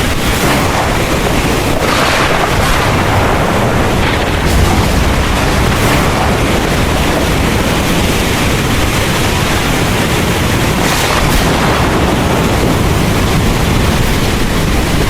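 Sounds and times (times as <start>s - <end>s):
deep low rumble: 0.0s - 15.0s
heavy rain pouring: 0.0s - 15.0s.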